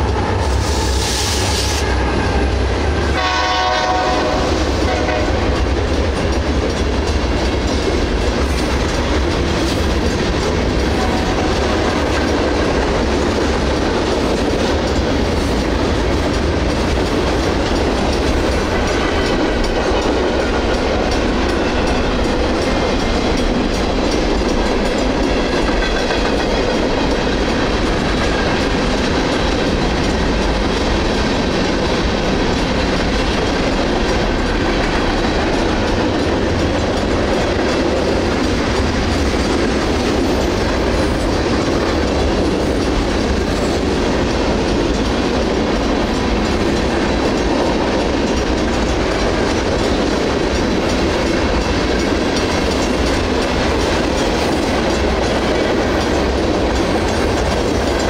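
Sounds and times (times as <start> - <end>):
freight train rumbling past: 0.0 - 58.0
wheels clacking over rail joints: 3.2 - 58.0.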